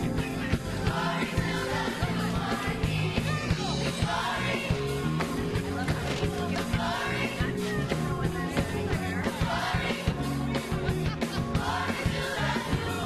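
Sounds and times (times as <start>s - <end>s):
singing over a steady beat: 0.8s - 13.0s.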